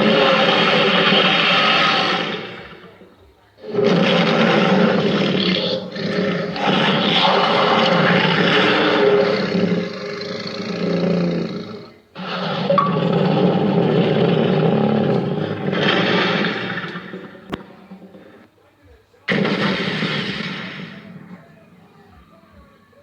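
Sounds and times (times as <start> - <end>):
monster roaring: 0.0 - 3.0, 3.6 - 18.4, 19.3 - 21.4.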